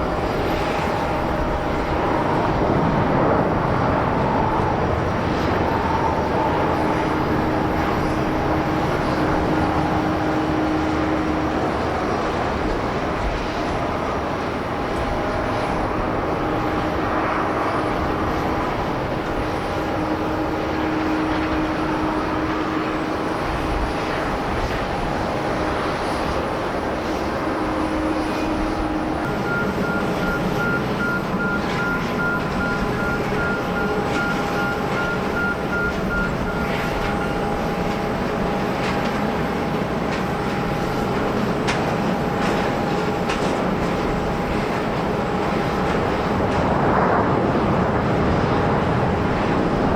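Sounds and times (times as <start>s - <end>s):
jet engines whining: 0.0s - 49.9s.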